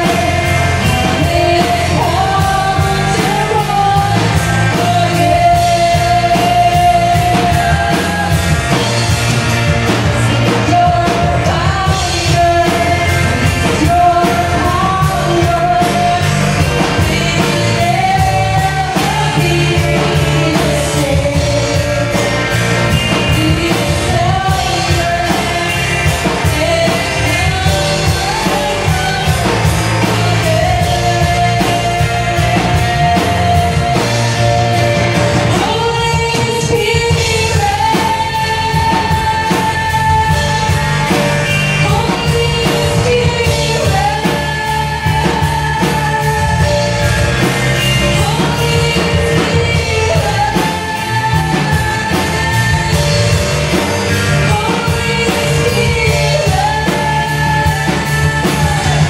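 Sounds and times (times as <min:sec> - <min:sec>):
drum kit beat: 0:00.0 - 0:59.0
electric bass: 0:00.0 - 0:59.0
keyboard: 0:00.0 - 0:59.0
voices singing together: 0:00.0 - 0:59.0.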